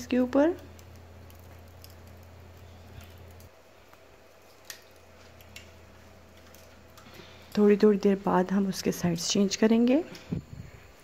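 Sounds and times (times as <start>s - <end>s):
gas flame hissing: 0.0s - 11.0s
low hum: 0.0s - 11.0s.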